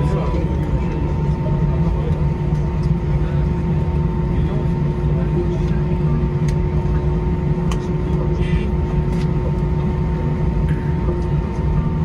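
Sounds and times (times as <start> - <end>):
low engine rumble: 0.0 - 12.0
steady hum: 0.0 - 12.0.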